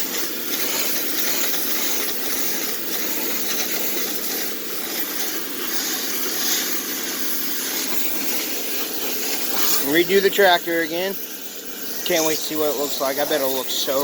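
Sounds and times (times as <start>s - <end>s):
pressure washer motor hum: 0.0s - 14.0s
water spray hissing: 0.0s - 14.0s.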